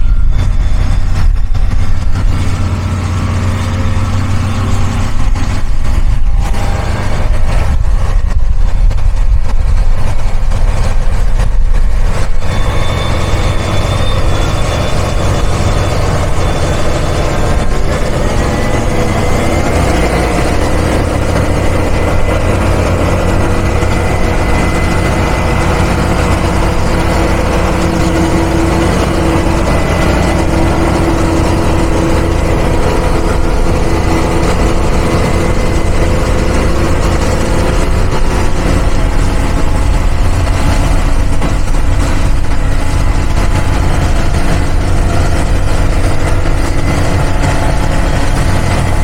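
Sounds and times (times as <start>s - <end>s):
tractor diesel engine under load: 0.0s - 49.0s.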